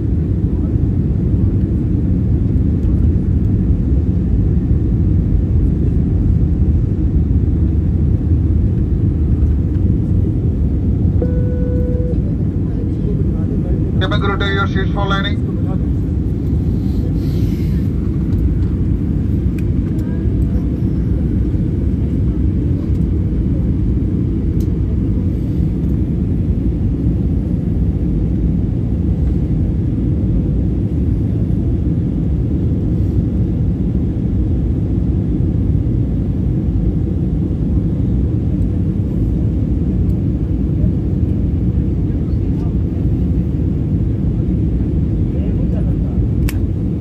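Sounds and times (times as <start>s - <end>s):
airliner cabin rumble: 0.0s - 47.0s.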